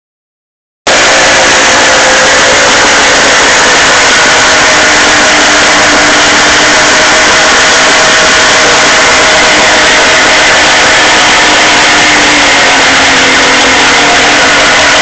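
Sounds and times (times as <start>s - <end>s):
outboard motor running: 0.9s - 15.0s.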